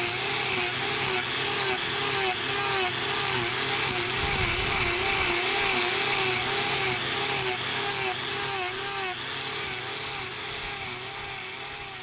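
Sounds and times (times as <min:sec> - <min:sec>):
angle grinder cutting hoof: 0:00.0 - 0:12.0.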